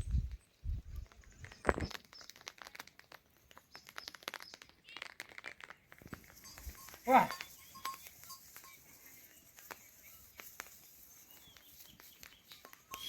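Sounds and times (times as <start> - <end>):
irregular clicks and crackles: 0.3 - 13.0.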